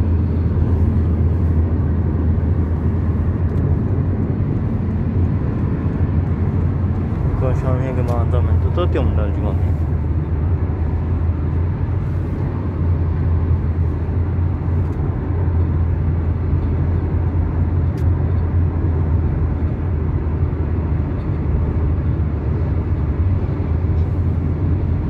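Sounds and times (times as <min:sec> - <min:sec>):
car interior road rumble: 0:00.0 - 0:25.0.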